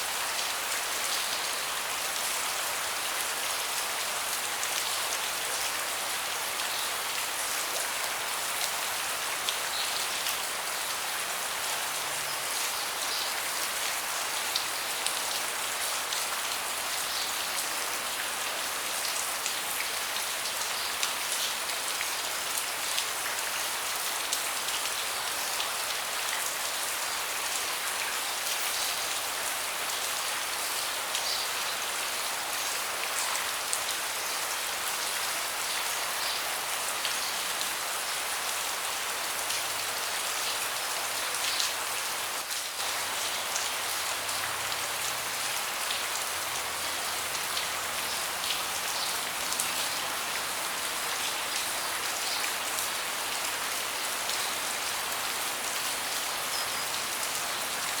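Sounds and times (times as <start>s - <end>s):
rain on a deck: 0.0s - 58.0s.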